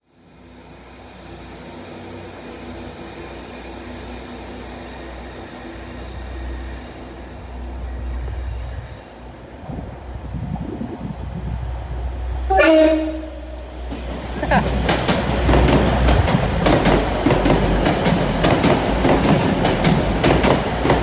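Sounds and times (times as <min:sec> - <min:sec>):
train rumbling: 0:00.2 - 0:21.0.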